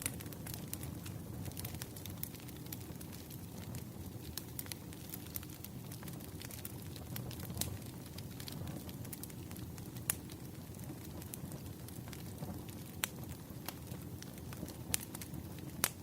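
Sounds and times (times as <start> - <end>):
sharp pops of fire: 0.0 - 16.0
wood fire crackling: 0.0 - 16.0.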